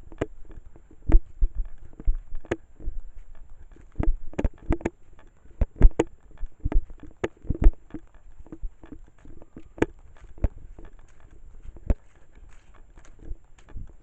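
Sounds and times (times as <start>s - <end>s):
footsteps walking: 0.0s - 14.0s.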